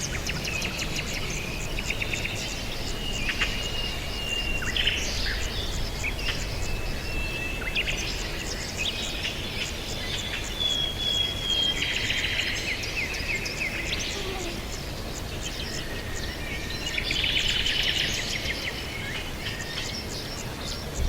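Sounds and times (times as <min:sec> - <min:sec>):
low background hiss: 0:00.0 - 0:21.0
small birds chirping: 0:00.0 - 0:21.0.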